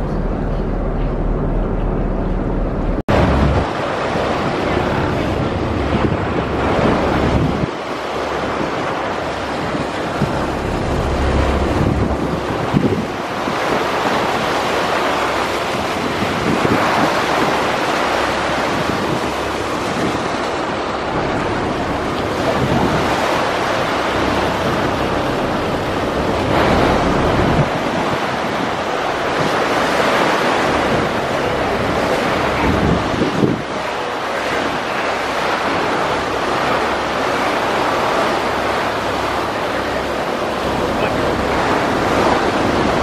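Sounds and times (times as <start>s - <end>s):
wind gusting on microphone: 0.0s - 43.0s
river water rushing: 3.1s - 43.0s.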